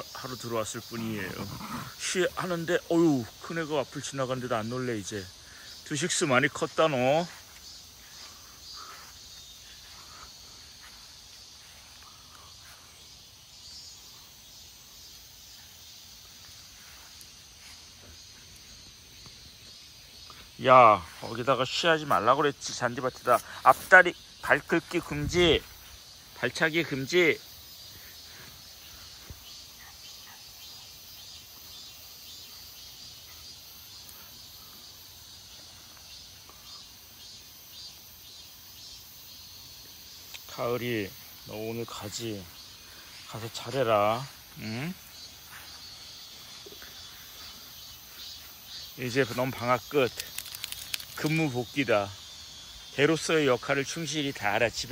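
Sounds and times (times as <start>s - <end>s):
cicadas buzzing: 0.0s - 54.9s.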